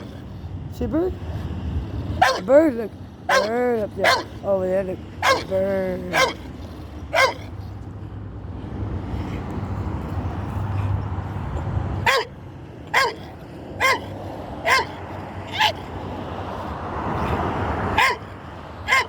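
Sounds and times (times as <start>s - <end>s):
low rumble of passing vehicle: 0.0s - 19.0s.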